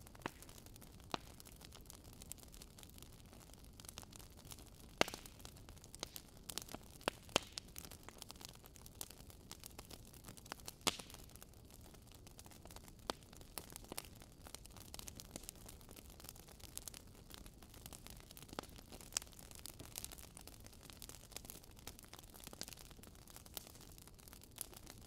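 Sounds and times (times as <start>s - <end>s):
bonfire crackling and popping: 0.0s - 25.0s.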